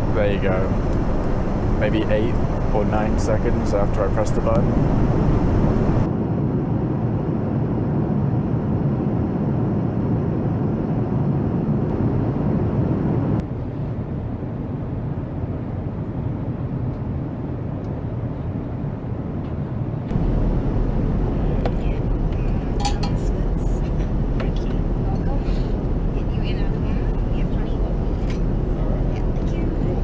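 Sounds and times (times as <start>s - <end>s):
airplane cabin noise: 0.0s - 30.0s.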